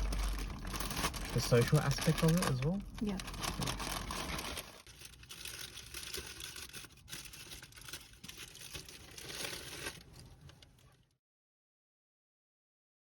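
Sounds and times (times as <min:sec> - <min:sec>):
crinkling rustling with clicks: 0:00.0 - 0:11.1.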